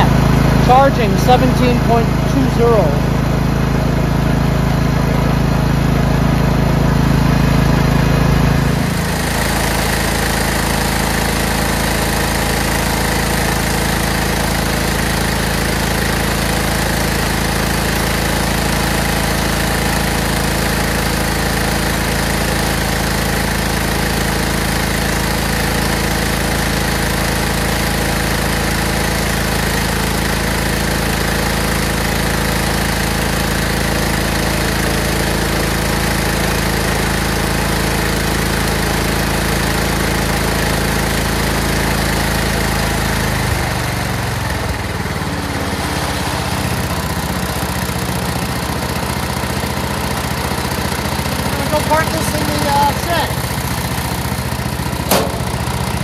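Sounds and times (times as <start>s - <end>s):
lawn tractor engine idling: 0.0s - 56.0s.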